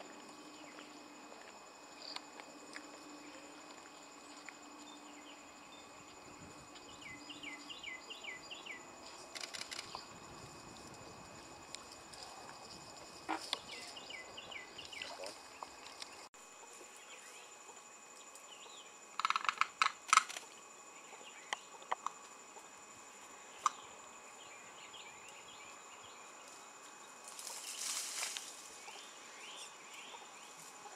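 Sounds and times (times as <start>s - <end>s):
high insect whine: 0.0s - 30.9s.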